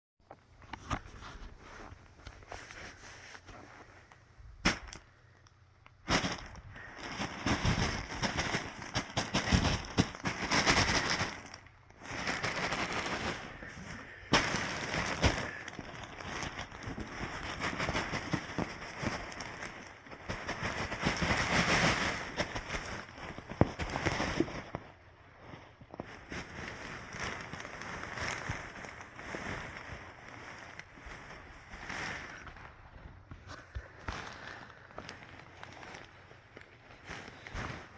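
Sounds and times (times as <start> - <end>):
bean-bag rustling: 5.9 - 37.9.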